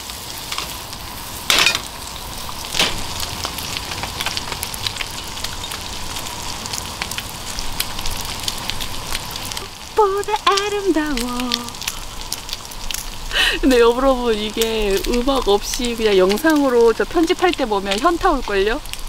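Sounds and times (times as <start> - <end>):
meat sizzling in a frying pan: 0.0 - 19.0.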